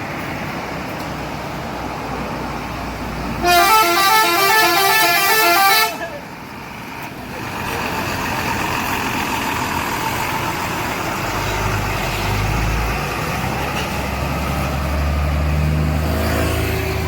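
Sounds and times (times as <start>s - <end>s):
heavy engine humming: 0.0s - 17.0s
road traffic noise: 0.0s - 17.0s.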